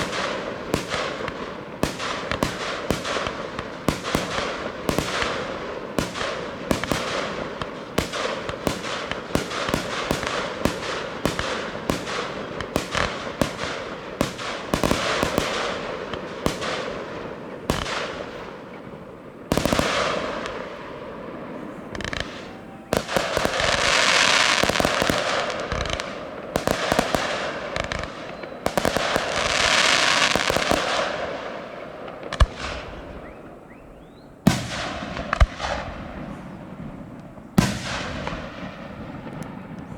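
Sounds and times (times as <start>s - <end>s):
dense firework crackle: 0.0s - 39.9s.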